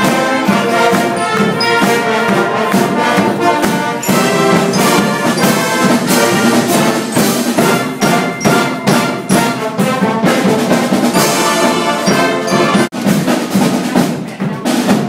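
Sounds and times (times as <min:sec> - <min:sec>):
brass band playing loud music: 0:00.0 - 0:15.0
drums keeping a steady beat: 0:00.0 - 0:15.0.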